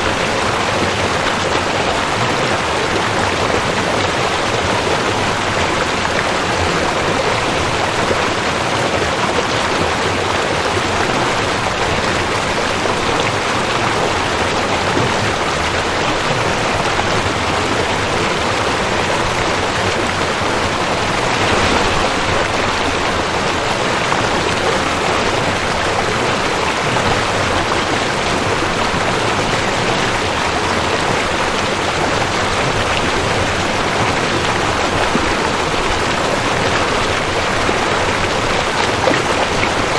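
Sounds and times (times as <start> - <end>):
fast water running over rocks: 0.0 - 39.9.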